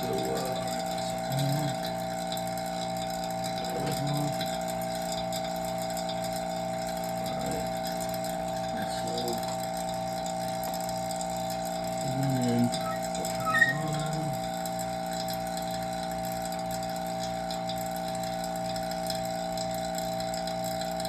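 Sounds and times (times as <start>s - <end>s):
vacuum pump humming: 0.0s - 21.0s.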